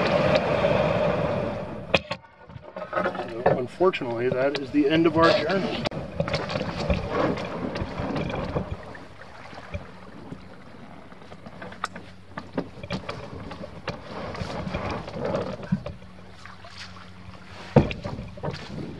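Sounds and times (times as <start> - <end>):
paddle dipping in water: 0.0 - 18.9
water sloshing around boat: 0.0 - 18.9.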